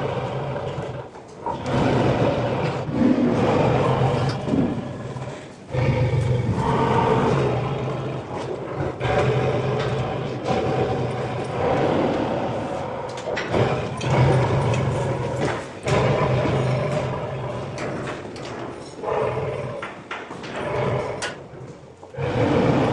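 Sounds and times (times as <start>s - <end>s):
monster growling roars: 0.0s - 19.9s, 22.1s - 22.9s.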